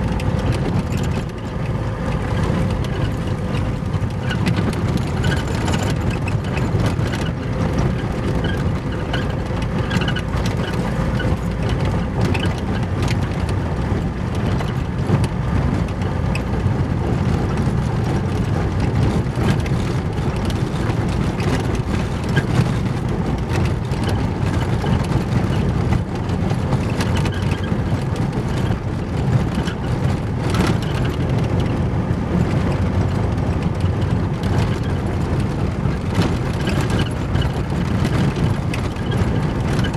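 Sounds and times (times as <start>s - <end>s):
car engine: 0.0s - 39.9s
tyres rumbling on gravel: 0.0s - 39.9s.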